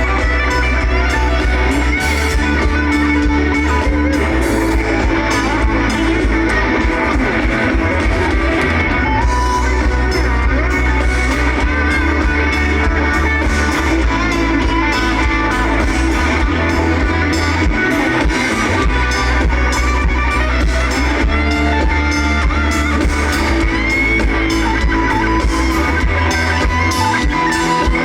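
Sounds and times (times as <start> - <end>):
electric guitar: 0.0 - 28.0
pop-rock band playing: 0.0 - 28.0.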